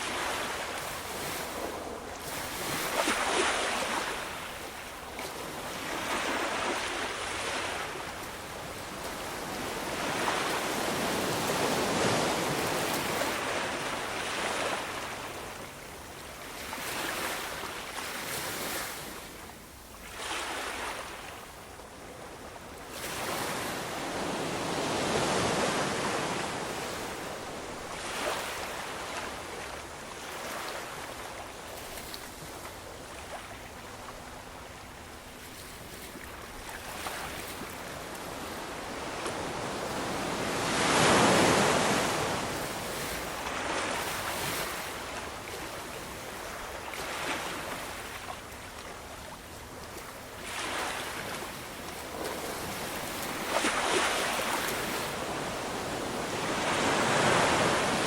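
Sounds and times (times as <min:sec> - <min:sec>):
ocean waves washing onto shore: 0:00.0 - 0:58.0.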